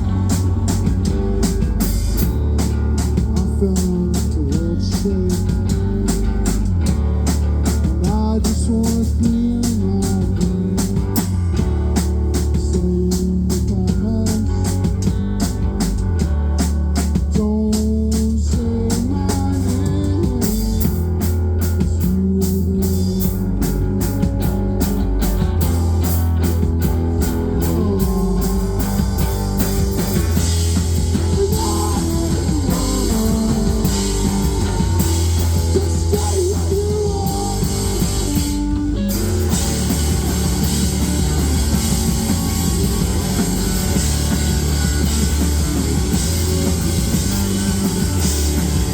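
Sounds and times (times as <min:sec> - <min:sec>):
bass: 0:00.0 - 0:48.9
drum kit: 0:00.0 - 0:48.9
electric guitar: 0:00.0 - 0:48.9.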